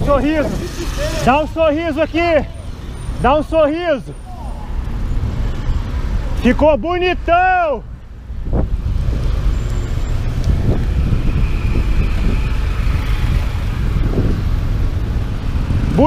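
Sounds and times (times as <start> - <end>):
slow car engines: 0.0 - 16.0
wind and road rumble: 0.0 - 16.0.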